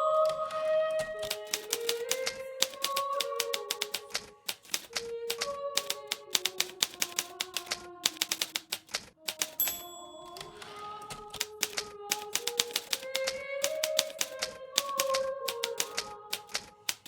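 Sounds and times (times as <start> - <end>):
typewriter keystrokes: 1.2 - 17.0.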